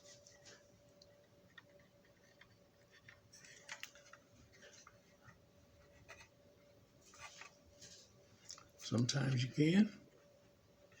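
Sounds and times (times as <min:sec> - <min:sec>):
faint clicks and scratches: 0:00.0 - 0:06.4, 0:07.0 - 0:09.4.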